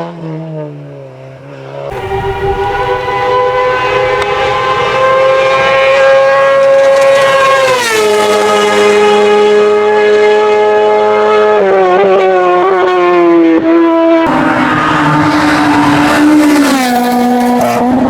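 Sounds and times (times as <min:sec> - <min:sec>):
race car engine at high revs: 0:01.9 - 0:18.0.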